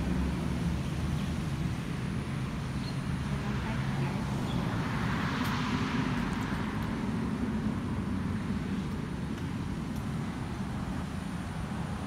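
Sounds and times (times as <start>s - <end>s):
road traffic noise: 0.0s - 12.0s
vehicle passing by: 0.0s - 12.0s.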